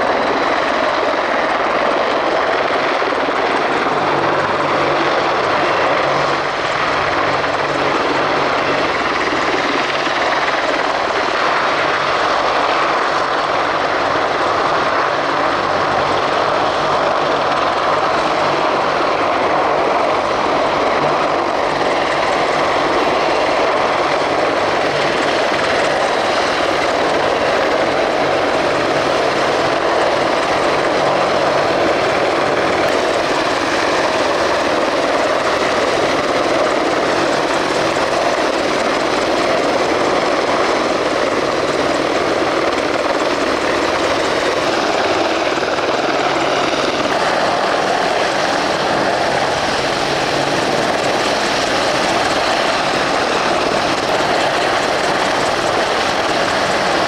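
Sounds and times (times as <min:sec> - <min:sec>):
helicopter flying low: 0:00.0 - 0:57.0.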